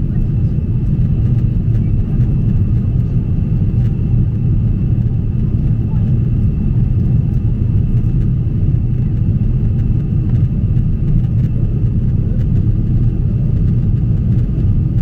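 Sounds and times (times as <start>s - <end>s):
airliner cabin roar: 0.0s - 15.0s.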